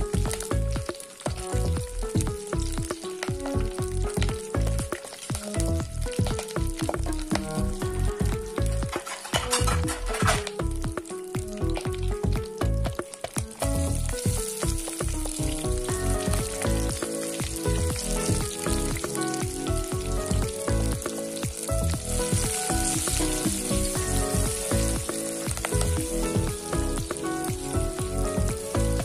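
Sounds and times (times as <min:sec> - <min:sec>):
instrumental background music: 0:00.0 - 0:29.0
onions sizzling in oil: 0:00.0 - 0:29.0.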